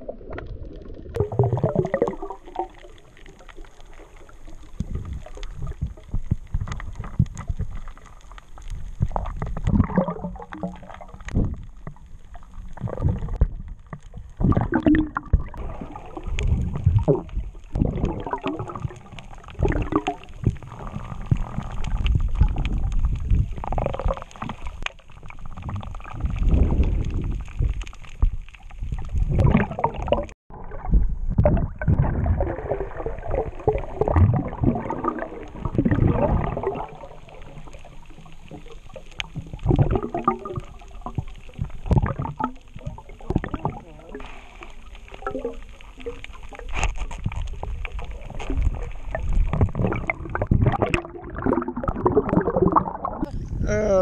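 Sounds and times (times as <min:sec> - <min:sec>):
underwater rumbling and gurgling: 0:00.0 - 0:54.0.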